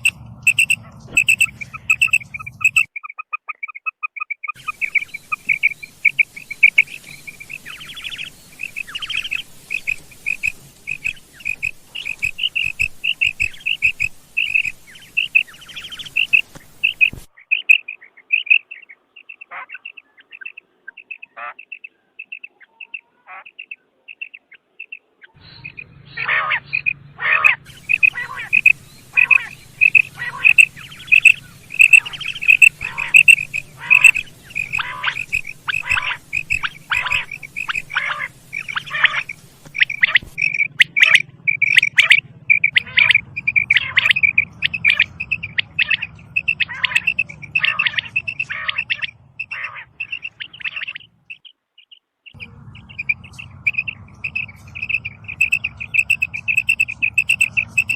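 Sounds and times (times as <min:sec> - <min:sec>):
quail calling: 0:00.0 - 0:57.9.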